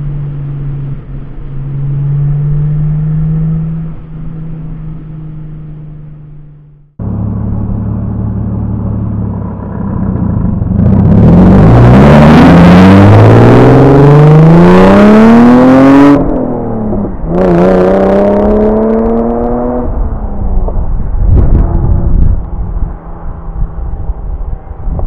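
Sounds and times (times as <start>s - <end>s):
car engine accelerating hard: 0.0s - 24.2s.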